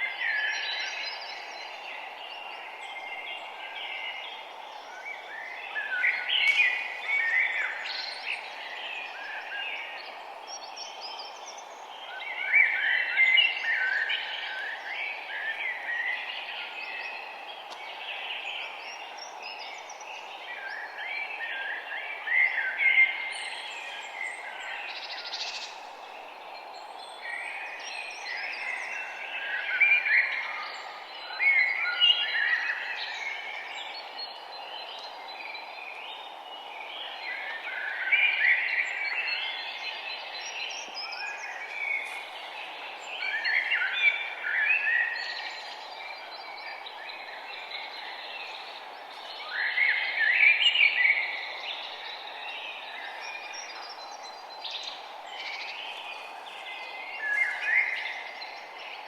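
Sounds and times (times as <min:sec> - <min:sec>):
songbirds chirping and singing: 0:00.0 - 0:59.0
steady background hiss: 0:00.0 - 0:59.0.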